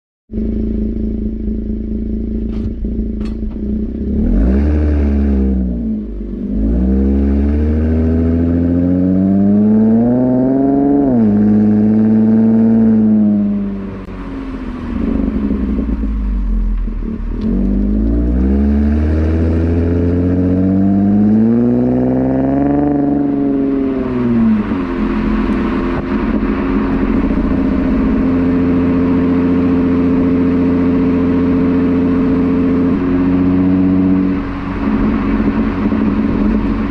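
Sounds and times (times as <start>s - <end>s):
car engine accelerating: 0.3s - 36.9s.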